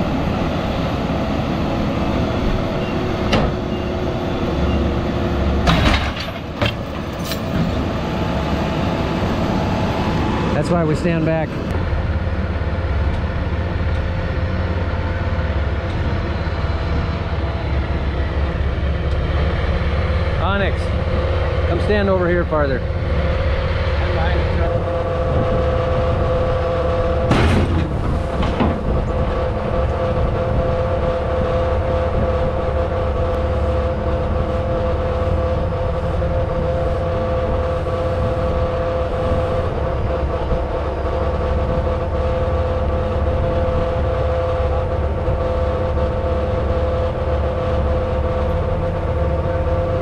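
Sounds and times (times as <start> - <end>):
diesel engine running: 0.0 - 50.0
winch whine: 0.0 - 50.0.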